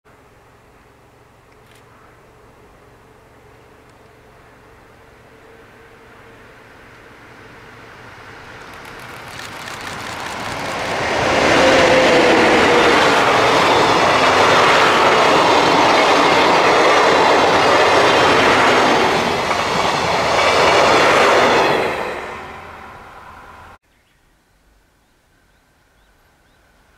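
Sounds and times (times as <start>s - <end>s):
passenger train passing: 2.2s - 23.8s.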